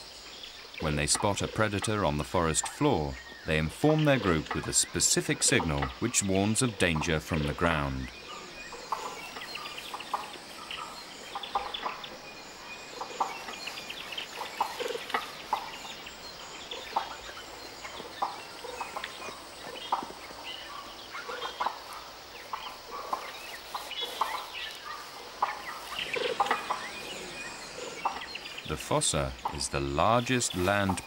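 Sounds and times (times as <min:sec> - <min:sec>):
lemur alarm calls: 0:00.8 - 0:31.0.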